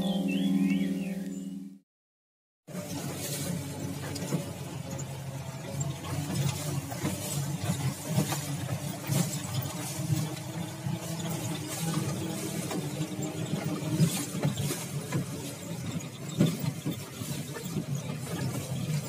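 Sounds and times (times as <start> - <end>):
jeep engine running: 2.7 - 19.0
light rattles and knocks: 2.7 - 19.0.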